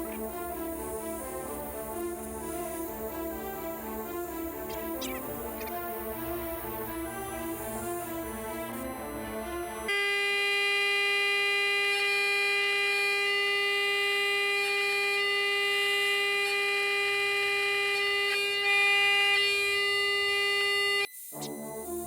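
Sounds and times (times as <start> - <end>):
steady test tone from radio speaker: 0.0 - 22.0.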